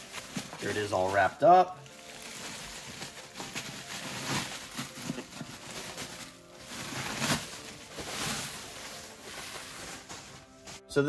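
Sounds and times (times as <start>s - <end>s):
background music: 0.0s - 11.0s
bubble wrap rustling: 0.0s - 11.0s.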